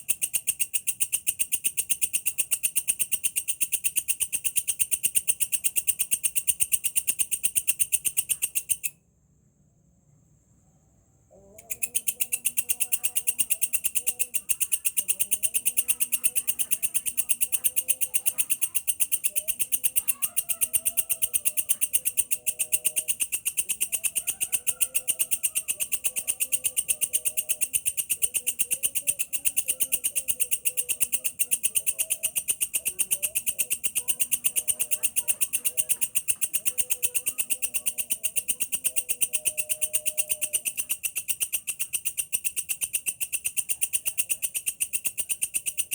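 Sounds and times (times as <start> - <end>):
katydid stridulating: 0.0 - 9.0, 11.3 - 45.9.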